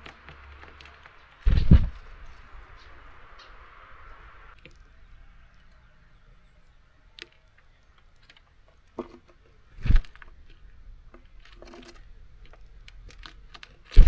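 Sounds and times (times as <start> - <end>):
birds pecking with sharp taps: 0.0 - 3.6, 4.5 - 5.9, 7.0 - 14.0.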